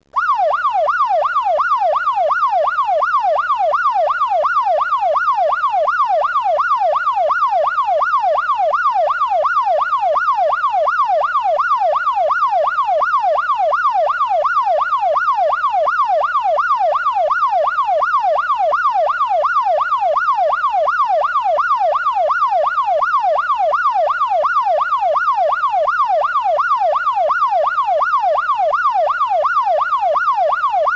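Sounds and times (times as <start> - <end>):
police siren yelping: 0.2 - 30.9.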